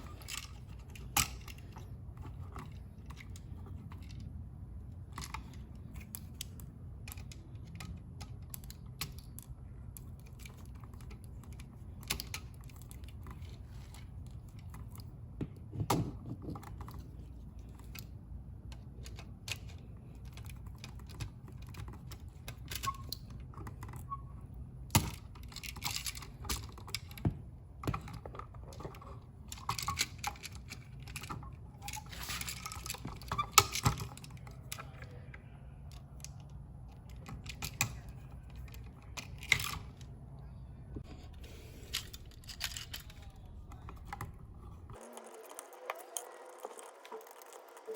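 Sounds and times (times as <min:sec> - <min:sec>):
steady low hum: 0:00.0 - 0:45.1.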